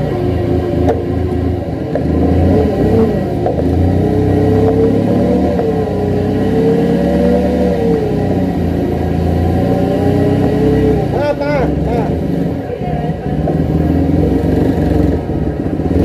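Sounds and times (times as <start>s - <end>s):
forklift engine running: 0.0s - 16.0s.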